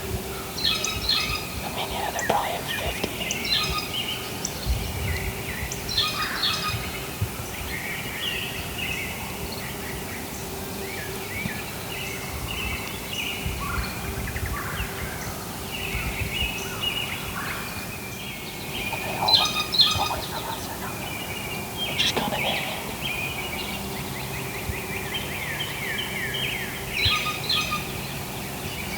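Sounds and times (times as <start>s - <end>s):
songbirds chirping and singing: 0.6s - 28.9s.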